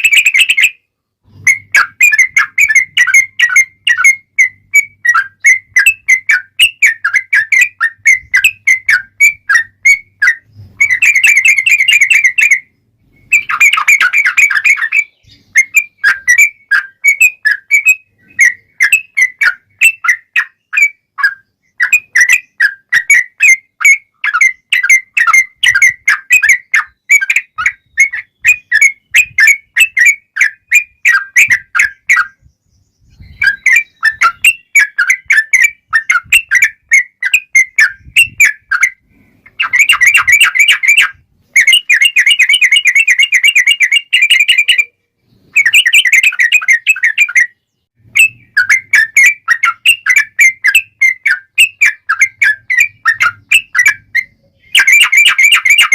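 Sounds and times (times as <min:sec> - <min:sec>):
bird singing rapid chirps: 0:00.0 - 0:55.9.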